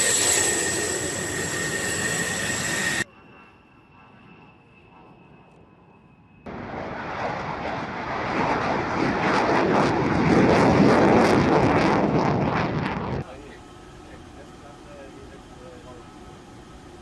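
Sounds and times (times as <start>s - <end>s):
military jet engine roar: 0.0s - 17.0s.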